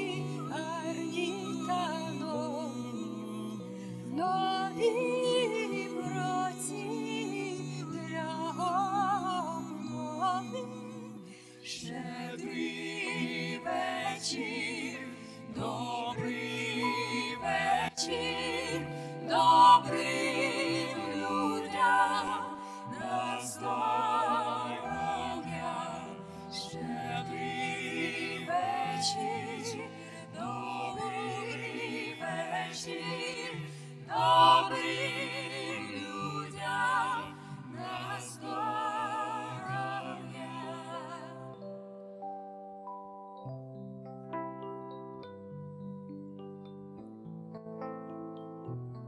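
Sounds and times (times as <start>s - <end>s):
choir singing carol in harmony: 0.0s - 41.8s.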